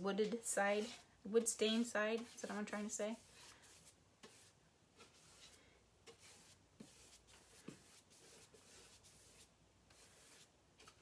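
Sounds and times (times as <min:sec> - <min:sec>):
paintbrush strokes on wood: 0:00.2 - 0:11.0.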